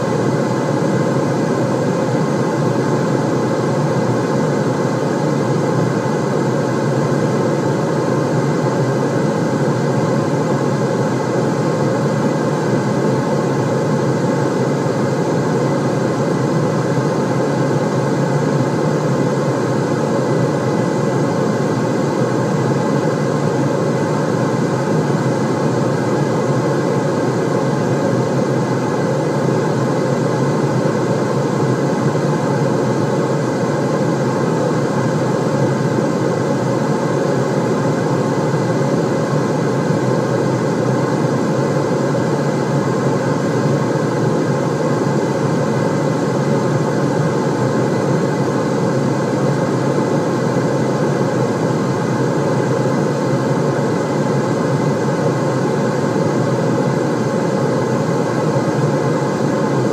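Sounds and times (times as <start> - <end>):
low white noise: 0.0 - 59.9.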